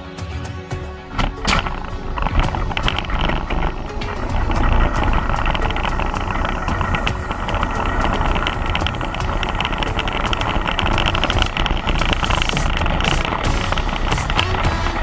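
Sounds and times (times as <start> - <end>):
cart rattling: 1.0 - 15.0
wheels rolling on asphalt: 1.0 - 15.0.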